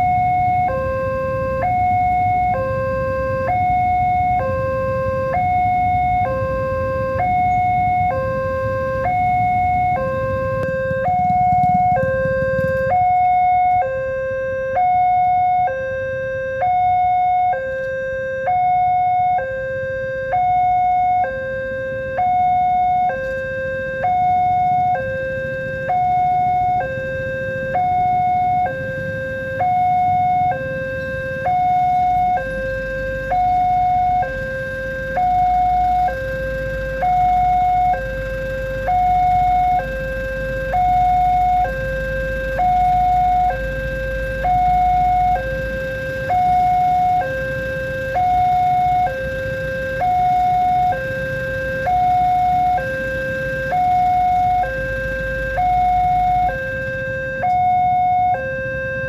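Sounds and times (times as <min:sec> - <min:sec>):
two-tone crossing alarm: 0:00.0 - 0:59.0.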